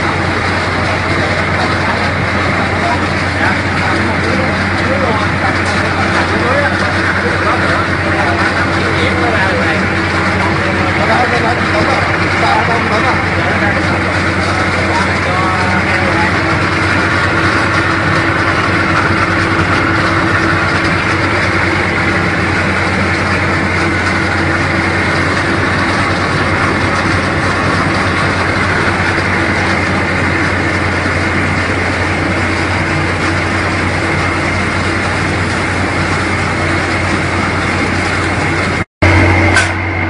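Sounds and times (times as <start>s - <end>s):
rice milling machine humming: 0.0s - 40.0s.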